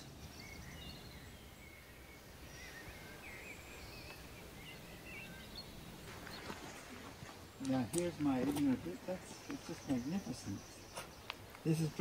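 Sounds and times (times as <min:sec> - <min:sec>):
faint birdsong: 0:00.0 - 0:12.0
outdoor background hiss: 0:00.0 - 0:12.0.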